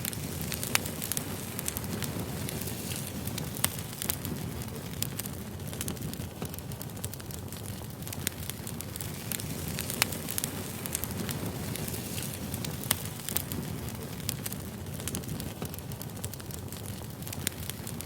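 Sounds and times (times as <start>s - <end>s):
fire crackles and pops: 0.0s - 18.0s
firewood flames rumbling: 0.0s - 18.0s.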